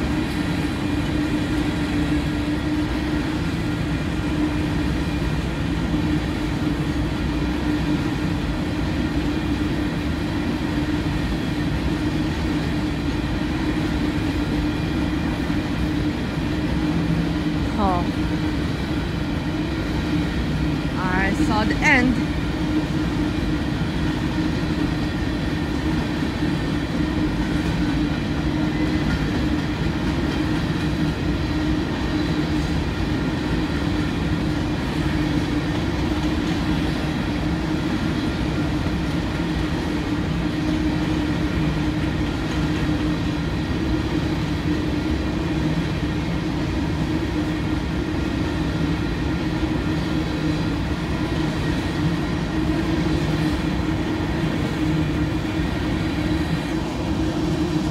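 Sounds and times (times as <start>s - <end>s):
freight train rumbling past: 0.0s - 57.9s
steel wheels clattering on rail: 0.0s - 57.9s.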